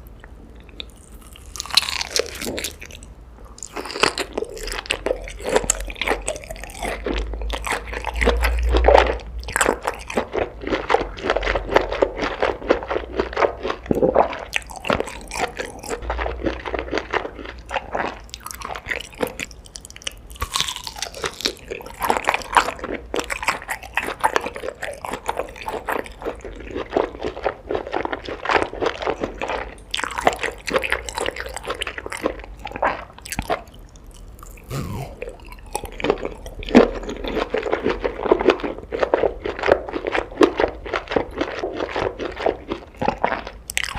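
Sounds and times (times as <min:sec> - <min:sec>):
crunching bites and chewing: 0:00.2 - 0:43.9.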